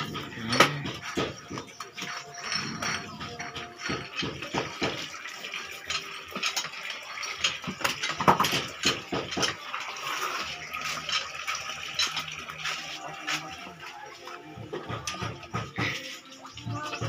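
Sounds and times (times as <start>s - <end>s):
wet watery noise: 0.1s - 17.0s.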